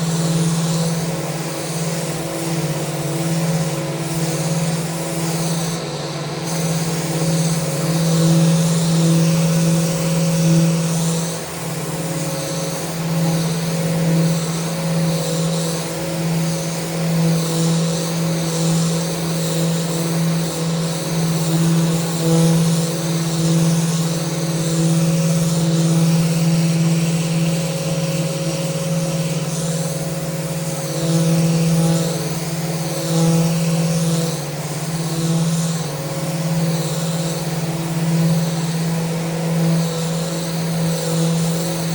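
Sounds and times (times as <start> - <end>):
power sander on wood: 0.0 - 41.9.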